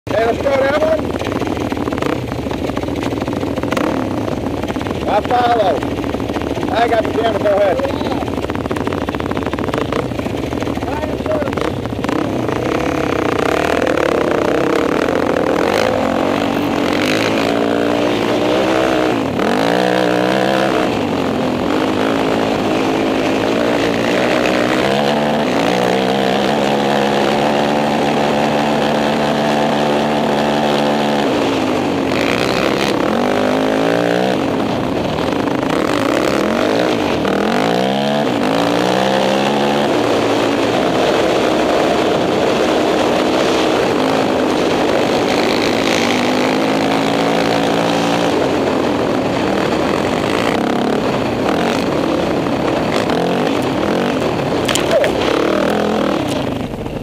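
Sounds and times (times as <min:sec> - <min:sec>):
quad engine revving: 0:00.1 - 0:57.0
wind buffeting microphone: 0:01.7 - 0:57.0.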